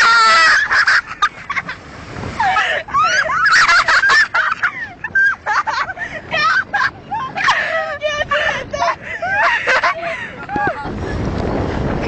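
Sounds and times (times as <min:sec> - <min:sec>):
young people shrieking laughter: 0:00.0 - 0:01.8, 0:02.4 - 0:10.9.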